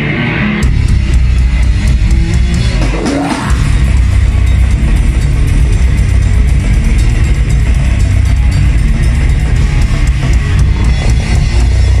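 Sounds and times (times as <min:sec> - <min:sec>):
bass guitar: 0:00.0 - 0:12.0
distorted electric guitars: 0:00.0 - 0:12.0
very fast dense drumming: 0:00.6 - 0:12.0.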